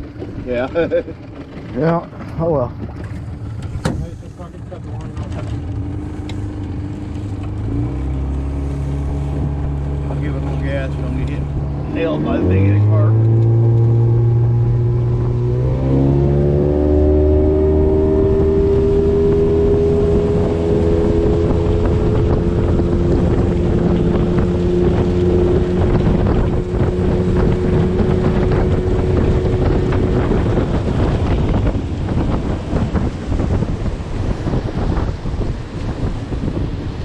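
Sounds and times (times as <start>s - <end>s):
outboard motor running: 0.0s - 37.0s
water noise: 0.0s - 37.0s
wind buffeting microphone: 0.0s - 37.0s.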